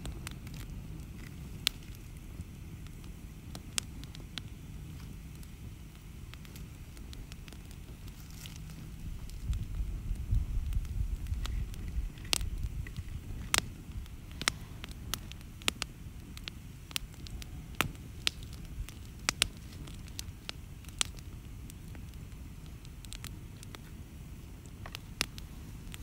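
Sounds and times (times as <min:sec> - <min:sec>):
fire pops: 0:00.0 - 0:26.0
low steady rumble: 0:00.0 - 0:26.0
wood fire crackling: 0:00.0 - 0:26.0.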